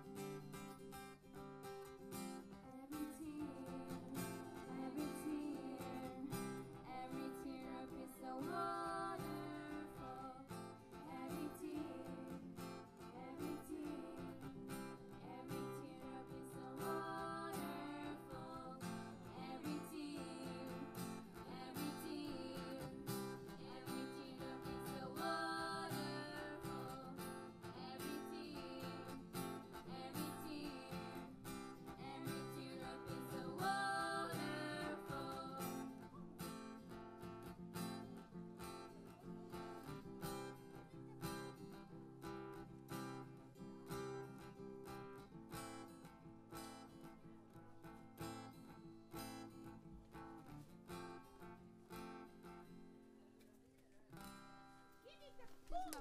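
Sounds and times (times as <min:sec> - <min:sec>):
acoustic guitar strumming: 0:00.0 - 0:53.0
guitar melody line: 0:00.0 - 0:53.1.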